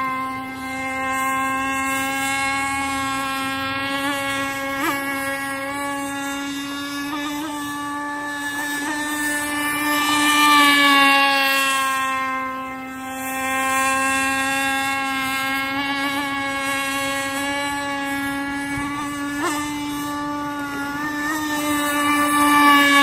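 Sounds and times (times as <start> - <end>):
model boat engine buzzing: 0.0 - 23.0.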